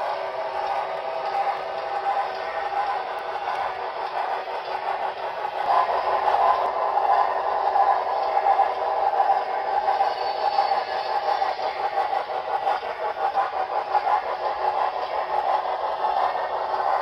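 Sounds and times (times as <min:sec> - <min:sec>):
model train rolling: 0:00.0 - 0:17.0.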